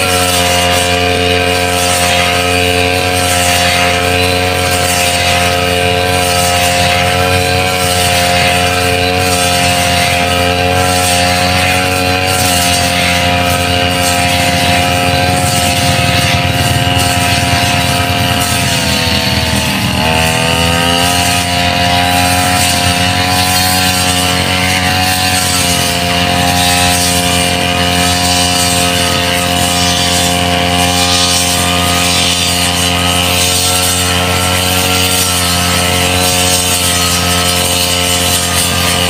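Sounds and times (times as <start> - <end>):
brush cutter engine buzzing: 0.0 - 39.0.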